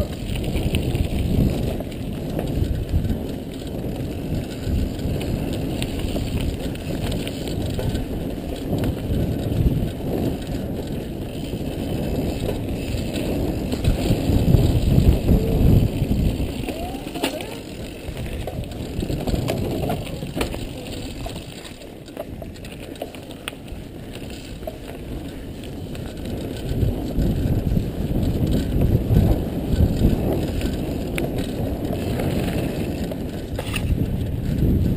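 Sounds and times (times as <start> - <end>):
bike rattling over bumps: 0.0 - 34.9
tyres rolling on loose gravel: 0.0 - 34.9
wind rushing over microphone: 0.0 - 34.9.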